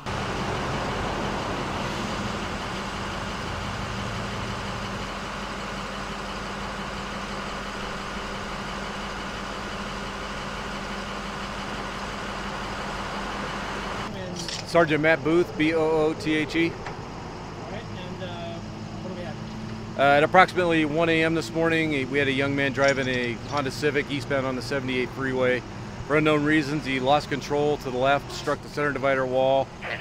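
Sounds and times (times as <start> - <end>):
large vehicle engine idling: 0.0 - 30.0.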